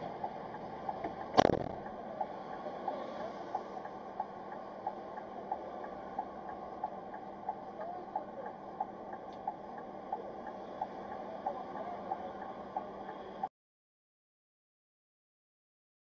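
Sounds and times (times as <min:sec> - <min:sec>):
engine and road noise hum: 0:00.0 - 0:13.5
flasher relay ticking: 0:00.0 - 0:13.5.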